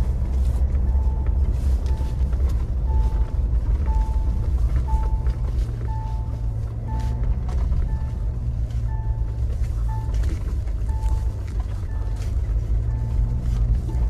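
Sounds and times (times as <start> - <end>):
dashboard warning beep: 0.0 - 14.0
engine and road rumble: 0.0 - 14.0.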